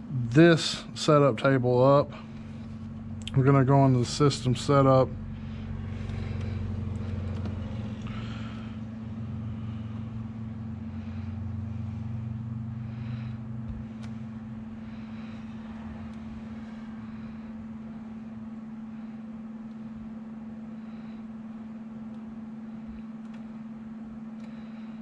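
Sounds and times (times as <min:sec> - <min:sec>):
deeper hum: 0:00.0 - 0:25.0
low mechanical hum: 0:00.0 - 0:25.0.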